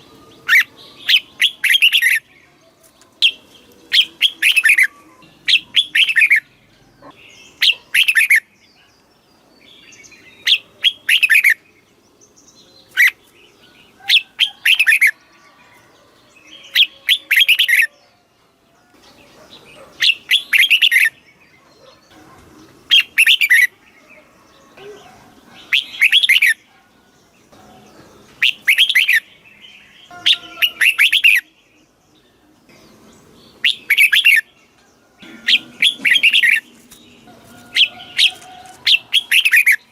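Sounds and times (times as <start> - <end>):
bulbul singing: 0.0 - 15.3, 18.8 - 39.9.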